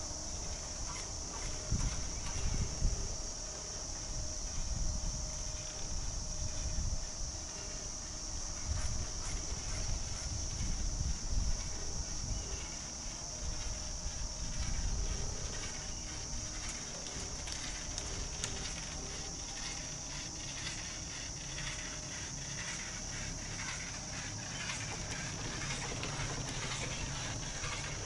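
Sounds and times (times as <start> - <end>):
pulsing insect chorus: 0.0 - 28.0.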